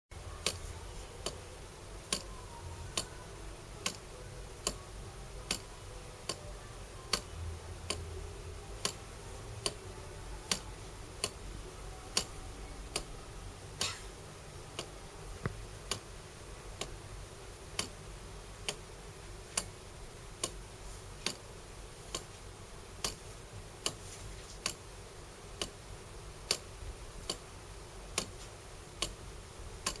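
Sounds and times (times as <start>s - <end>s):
mechanical clock ticking: 0.2s - 30.0s.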